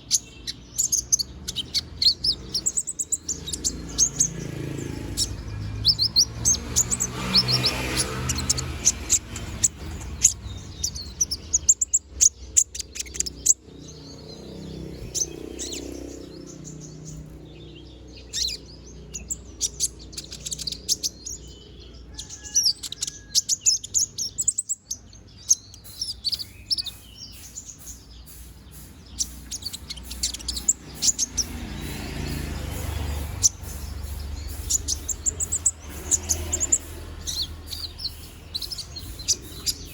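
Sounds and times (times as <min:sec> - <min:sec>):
sunbird high chirps and twitters: 0:00.0 - 0:39.9.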